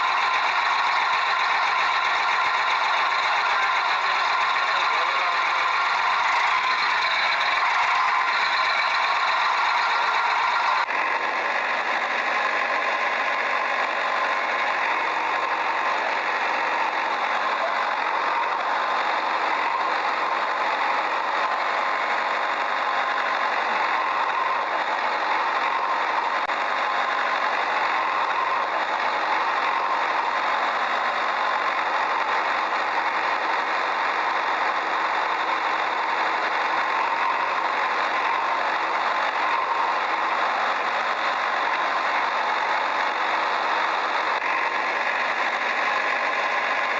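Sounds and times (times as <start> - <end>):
steady engine-like running noise: 0.0 - 46.9.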